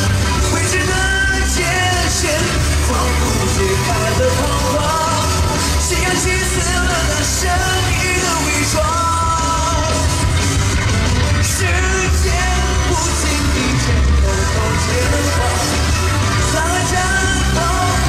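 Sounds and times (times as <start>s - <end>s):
pop song with singer: 0.0s - 18.0s.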